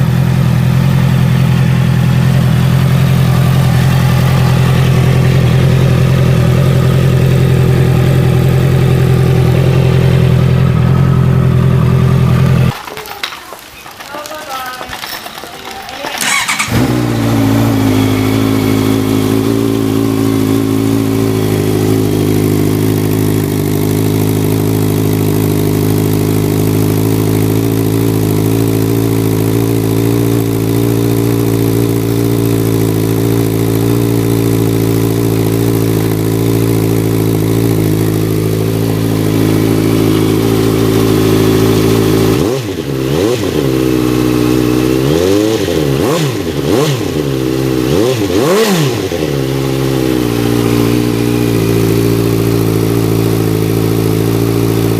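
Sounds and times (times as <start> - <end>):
engine throttle blips: 0.0 - 12.8, 16.2 - 54.9
motorcycle engine idling: 0.0 - 12.9, 16.2 - 54.9.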